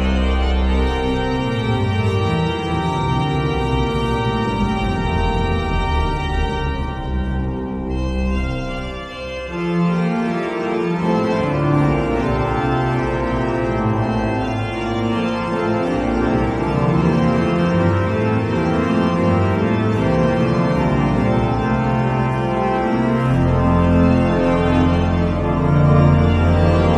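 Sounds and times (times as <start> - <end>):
pipe organ music: 0.0 - 26.9.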